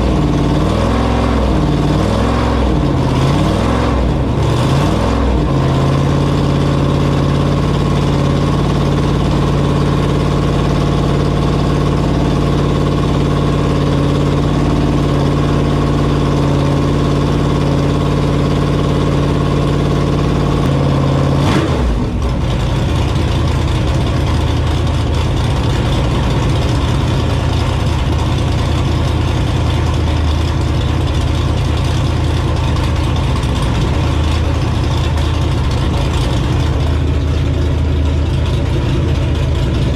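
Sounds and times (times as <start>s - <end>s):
engine running on dyno: 0.0s - 39.9s.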